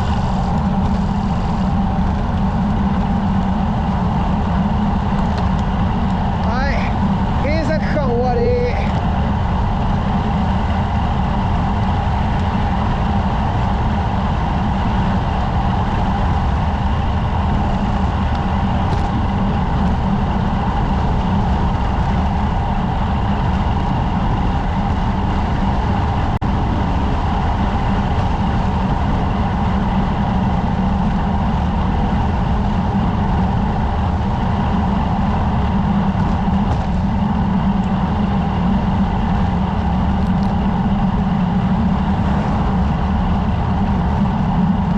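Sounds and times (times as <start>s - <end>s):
wind rush on microphone: 0.0s - 44.9s.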